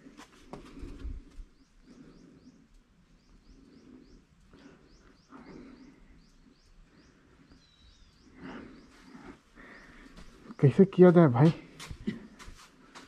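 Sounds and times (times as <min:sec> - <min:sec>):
faint bird chirping: 0:00.0 - 0:12.4.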